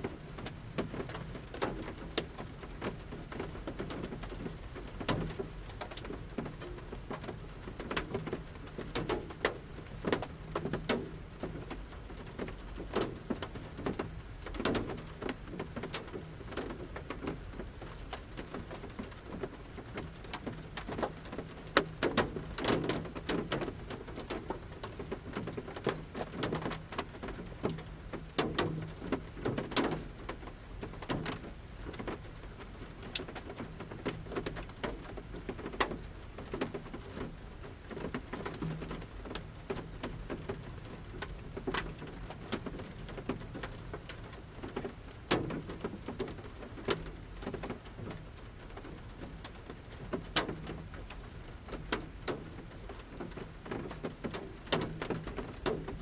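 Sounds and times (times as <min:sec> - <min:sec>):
raindrops tapping on a van roof: 0:00.0 - 0:56.0
soft rain patter: 0:00.0 - 0:56.0.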